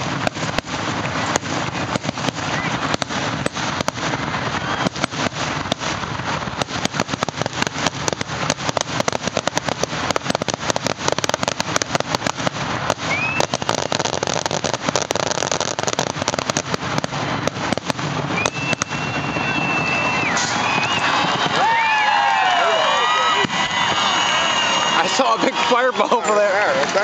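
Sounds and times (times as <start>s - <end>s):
fireworks bangs and crackles: 0.0s - 27.0s
fireworks whistles: 0.0s - 27.0s.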